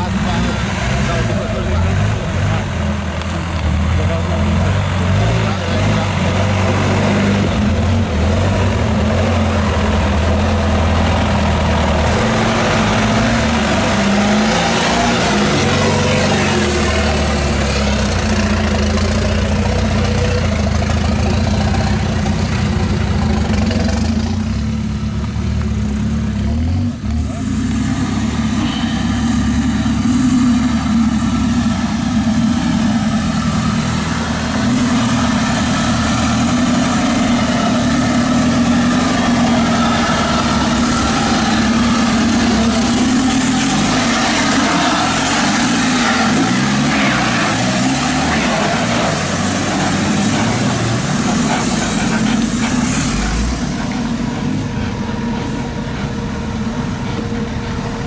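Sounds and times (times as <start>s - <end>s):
buggy engine at low revs: 0.0s - 58.0s
pickup truck engine climbing: 0.0s - 58.0s.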